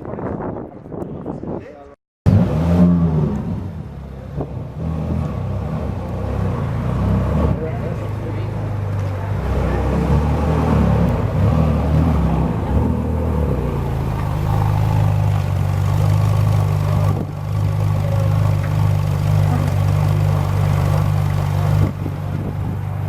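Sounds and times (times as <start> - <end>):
car engine running: 2.3 - 23.0.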